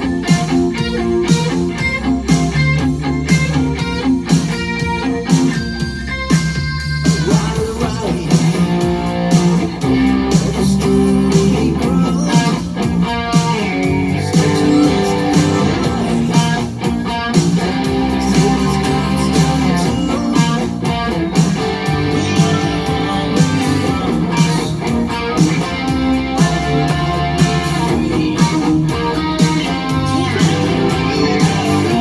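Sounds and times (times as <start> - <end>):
electric guitar riff: 0.0 - 32.0.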